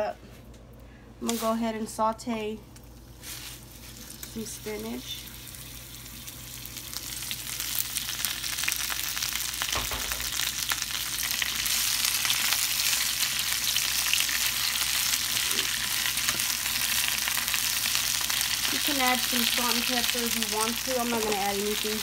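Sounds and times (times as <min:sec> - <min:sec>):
spinach sizzling in oil: 0:02.9 - 0:22.0.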